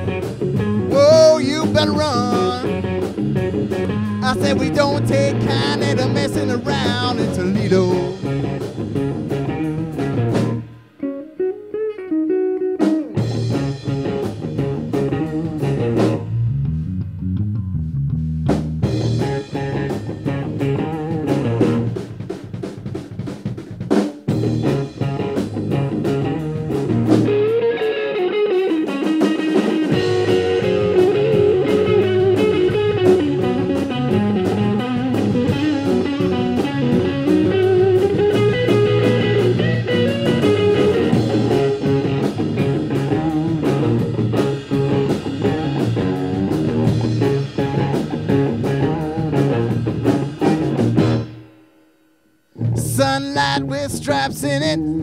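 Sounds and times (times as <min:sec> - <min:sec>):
lone guitar line: 0:00.0 - 0:17.9, 0:18.8 - 0:22.6, 0:24.3 - 0:51.6, 0:52.6 - 0:55.0
rock band playing: 0:00.0 - 0:51.8, 0:52.5 - 0:55.0.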